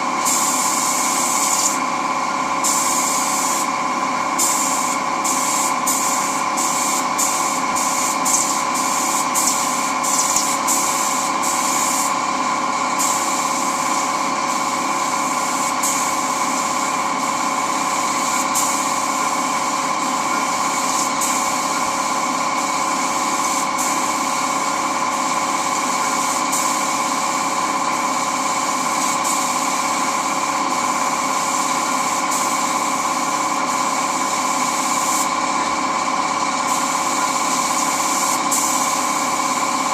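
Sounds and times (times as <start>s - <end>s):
air compressor running: 0.0s - 39.9s
spray gun air hiss: 0.0s - 39.9s.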